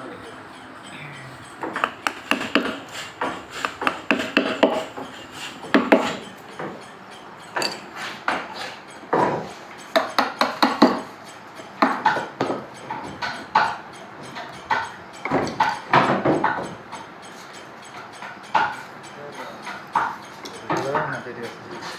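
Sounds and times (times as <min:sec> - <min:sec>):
chisels tapping and clinking on wood: 0:00.0 - 0:21.9.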